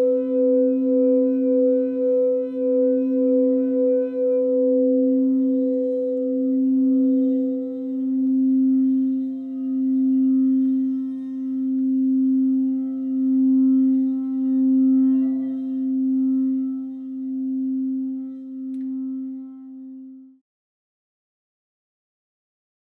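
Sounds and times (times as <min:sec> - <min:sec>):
singing bowl ringing: 0:00.0 - 0:20.4.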